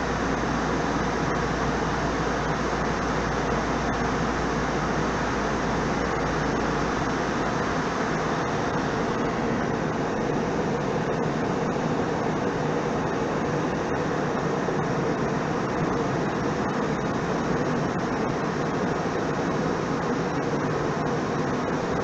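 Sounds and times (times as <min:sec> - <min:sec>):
airliner cabin drone: 0:00.0 - 0:22.0.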